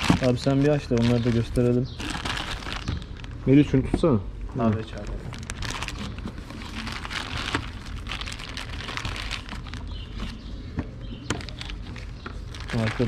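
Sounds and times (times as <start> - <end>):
packaging rustling and crinkling: 0.0 - 3.4, 4.6 - 10.6, 11.2 - 13.0.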